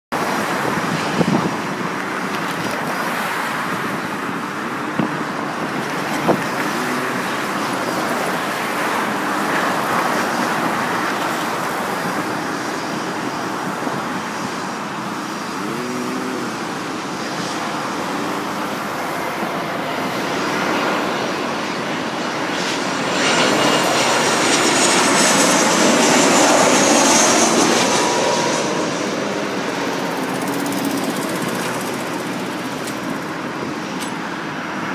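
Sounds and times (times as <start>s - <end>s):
jet engine noise: 0.1s - 34.9s
high fan whine: 0.2s - 34.9s.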